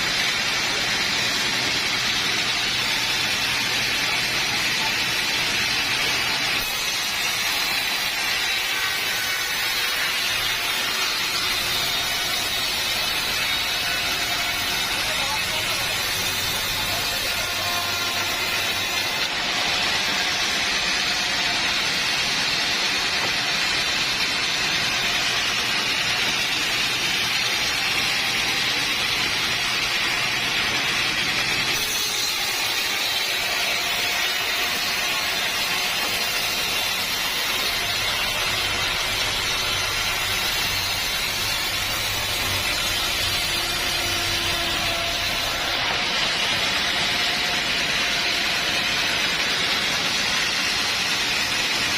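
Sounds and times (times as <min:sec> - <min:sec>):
saw cutting through log: 0:00.0 - 0:51.9.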